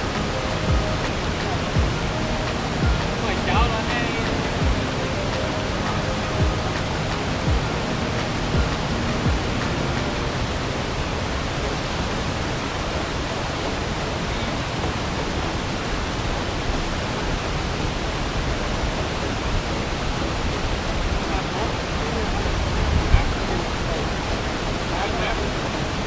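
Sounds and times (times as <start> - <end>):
river water pouring over weir: 0.0 - 26.0.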